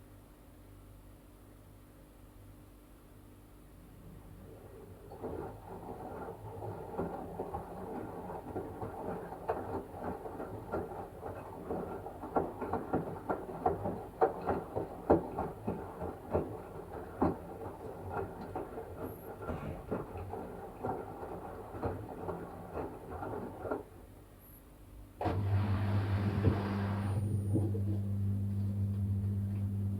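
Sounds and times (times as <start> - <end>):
washing machine drum humming: 3.9 - 24.2, 25.2 - 29.9.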